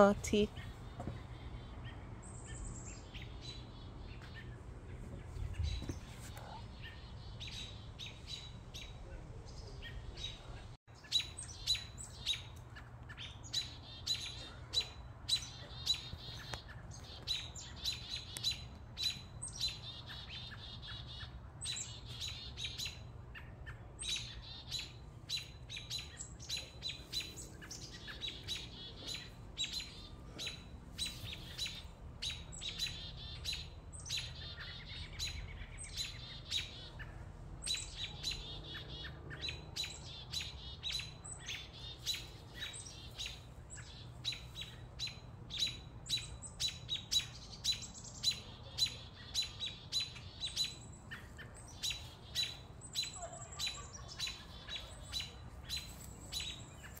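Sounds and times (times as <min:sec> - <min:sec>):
birds giving alarm chirps: 0:00.0 - 0:57.0.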